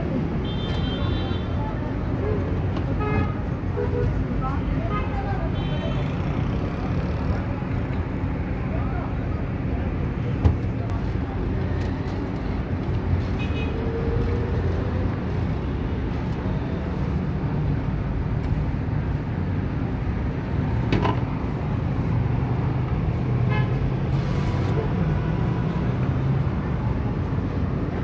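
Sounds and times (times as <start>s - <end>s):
rumble of vehicle engines: 0.0s - 28.0s.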